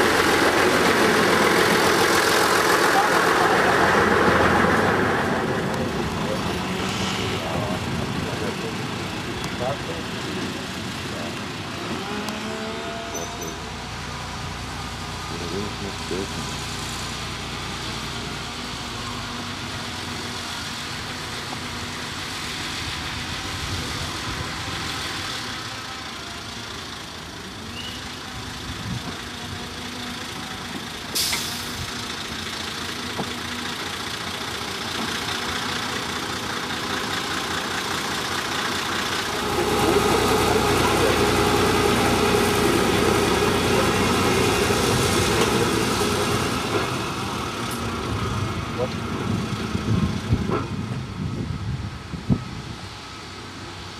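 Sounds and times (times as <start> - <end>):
diesel train passing: 0.0 - 53.9.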